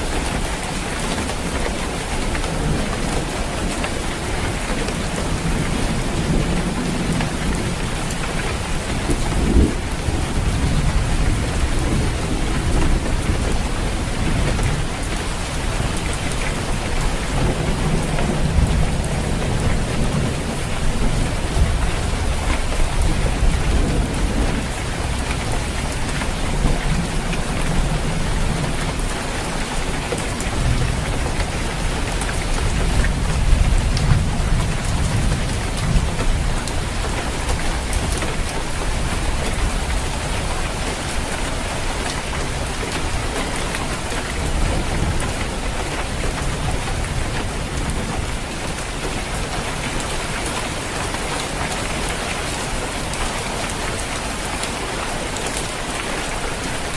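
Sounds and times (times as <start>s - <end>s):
heavy rain on a roof: 0.0s - 56.9s
low rumble of thunder: 2.1s - 56.9s.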